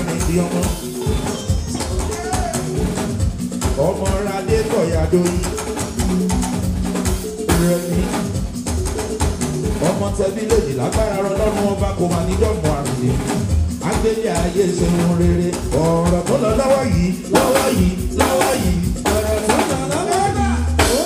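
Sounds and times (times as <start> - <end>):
man singing: 0.0 - 2.8, 3.7 - 5.8, 7.4 - 8.6, 9.8 - 21.0
drum kit beat: 0.0 - 21.0
live band playing: 0.0 - 21.0.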